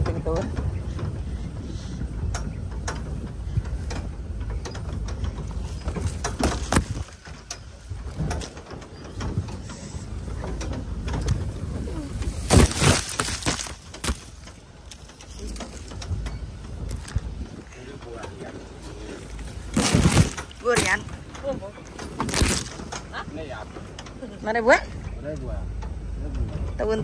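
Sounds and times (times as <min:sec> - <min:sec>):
low engine rumble: 0:00.0 - 0:27.0
palm fronds scraping vehicle: 0:00.0 - 0:27.0
vehicle body rattling over bumps: 0:00.0 - 0:27.0.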